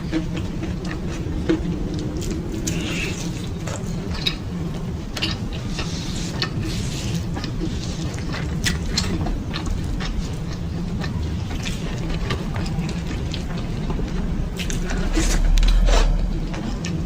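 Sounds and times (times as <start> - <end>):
chewing food: 0.0 - 17.0
low rumble: 0.0 - 17.0.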